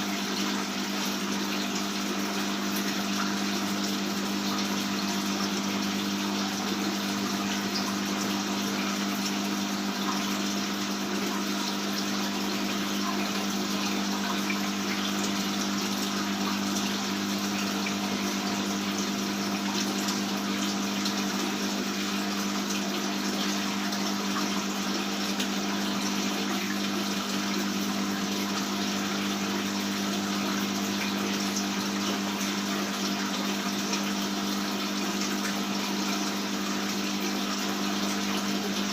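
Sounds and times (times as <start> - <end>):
water flowing and splashing: 0.0 - 38.9
water pump humming: 0.0 - 38.9.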